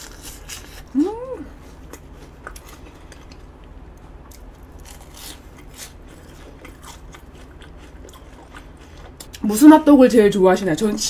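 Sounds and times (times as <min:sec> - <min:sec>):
person chewing food: 0:00.0 - 0:09.4.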